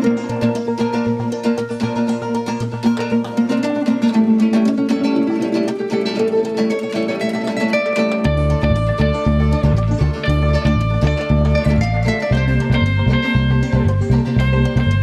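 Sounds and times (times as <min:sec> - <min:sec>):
guitar playing: 0:00.0 - 0:15.0.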